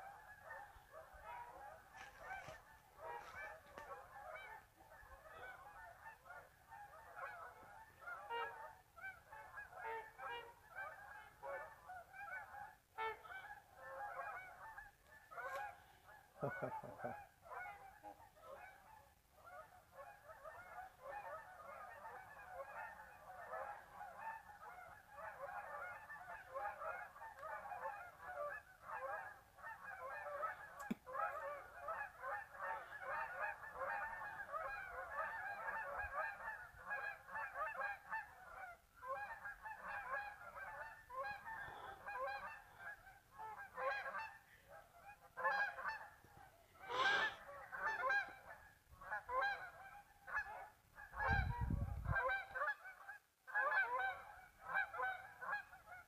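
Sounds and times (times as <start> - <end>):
flock of geese honking: 0.0 - 56.0.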